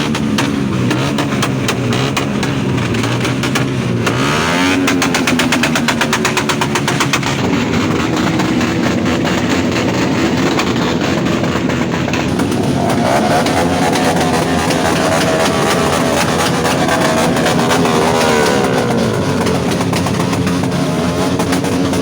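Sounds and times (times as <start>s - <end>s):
car engine revving: 0.0s - 22.0s
sharp exhaust pops: 0.0s - 22.0s.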